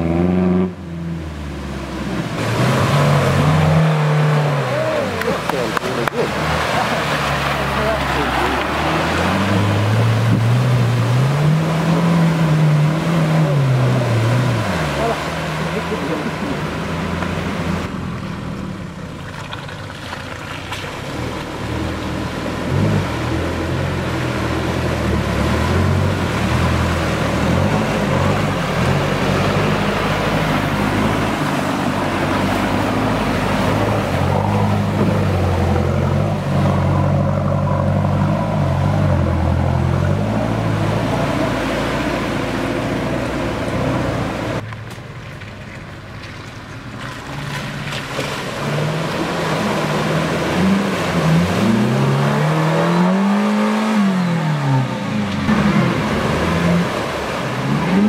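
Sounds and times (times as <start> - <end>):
off-road vehicle engine revving: 0.0 - 19.5, 20.1 - 44.7, 46.9 - 58.0
mud and water splashing: 0.0 - 58.0.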